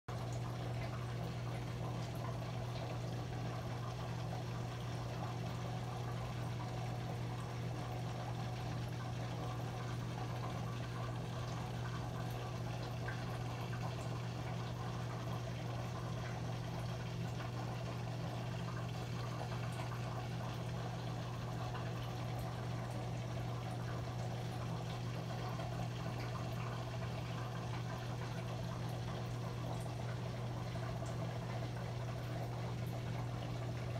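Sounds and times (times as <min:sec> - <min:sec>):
bubbling and trickling water: 0:00.1 - 0:33.9
constant low hum: 0:00.1 - 0:33.9.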